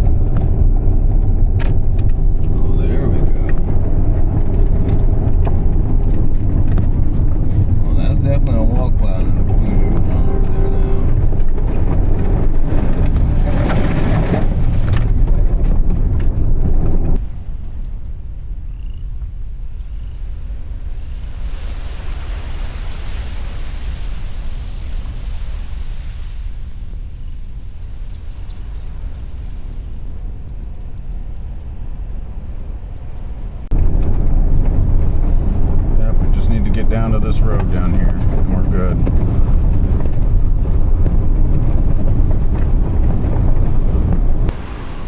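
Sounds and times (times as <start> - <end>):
tire and road rumble: 0.0 - 45.0.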